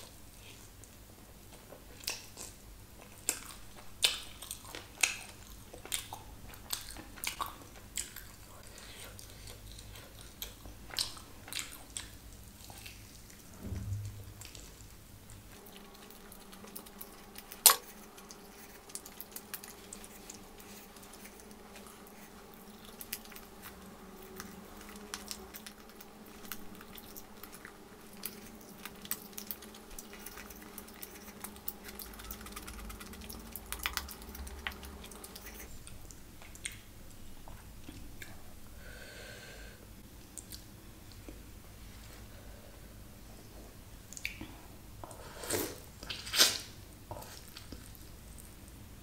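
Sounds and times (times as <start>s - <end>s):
wet chewing and smacking: 0.8s - 13.5s, 14.4s - 38.4s, 40.2s - 41.4s, 46.0s - 48.6s.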